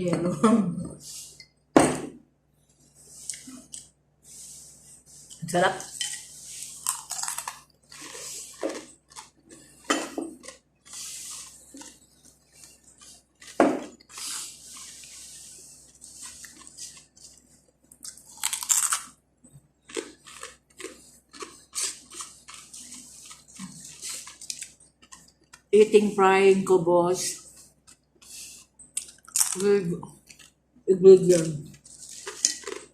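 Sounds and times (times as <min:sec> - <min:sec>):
person chewing crunchy bread: 0:02.7 - 0:25.8, 0:27.4 - 0:30.6, 0:31.6 - 0:32.9.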